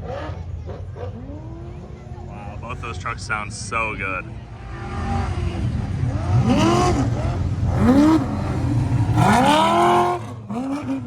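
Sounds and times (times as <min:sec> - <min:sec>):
race truck engines revving: 0:00.0 - 0:11.0.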